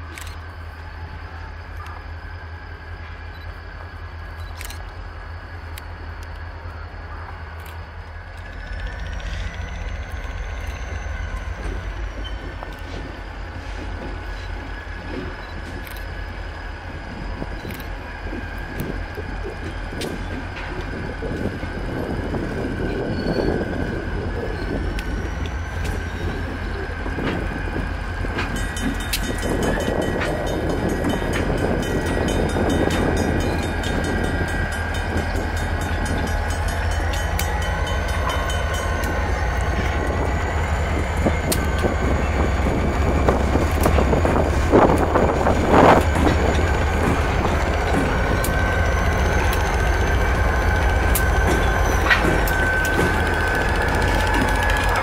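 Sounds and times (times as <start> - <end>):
diesel locomotives rumbling: 0.0 - 55.0.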